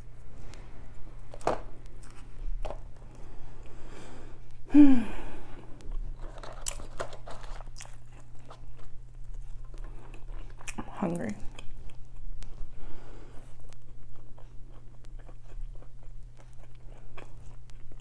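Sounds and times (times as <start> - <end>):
chewing and crunching food: 0.4 - 4.7, 5.4 - 18.0.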